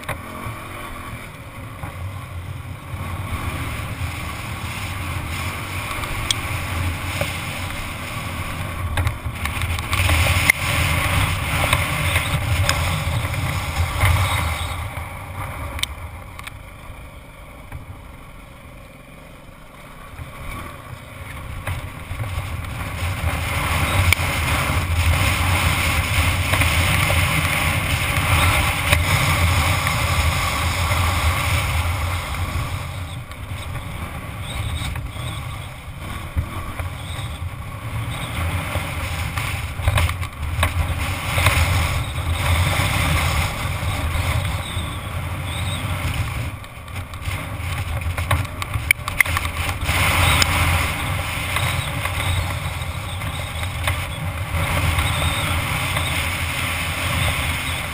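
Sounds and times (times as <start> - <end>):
wind rushing over microphone: 0.0 - 16.5, 21.3 - 57.9
dirt bike engine running: 0.0 - 57.9.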